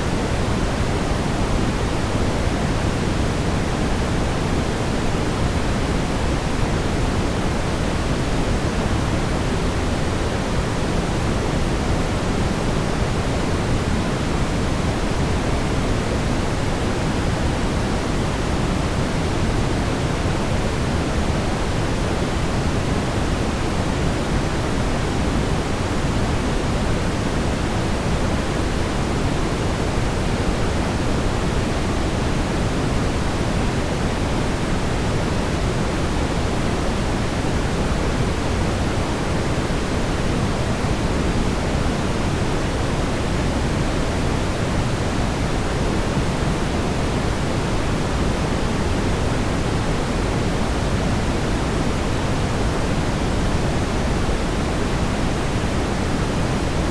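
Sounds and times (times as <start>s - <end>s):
brown noise hiss: 0.0s - 56.9s.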